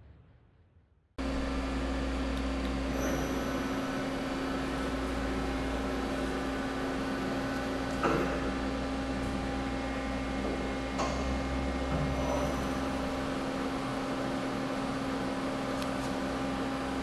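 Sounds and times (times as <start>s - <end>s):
lathe machine hum: 1.2s - 17.0s.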